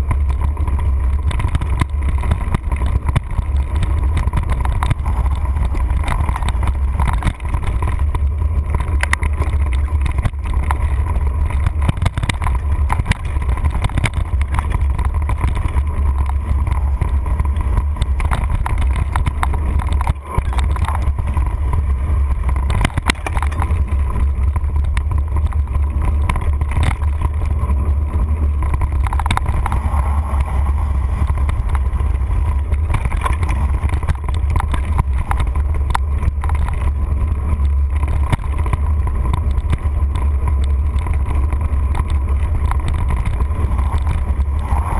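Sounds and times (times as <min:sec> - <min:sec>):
bike knocks and rattles: 0:00.0 - 0:44.9
wind rumble on microphone: 0:00.0 - 0:44.9.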